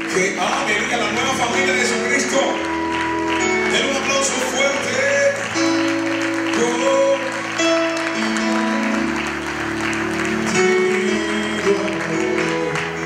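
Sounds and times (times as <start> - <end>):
congregation applauding: 0.0 - 13.0
music with long held chords: 0.0 - 13.0.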